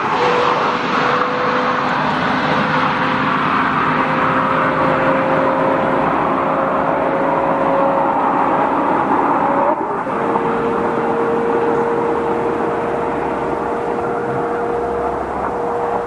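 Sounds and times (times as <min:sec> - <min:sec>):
sports car engine running: 0:00.8 - 0:16.0.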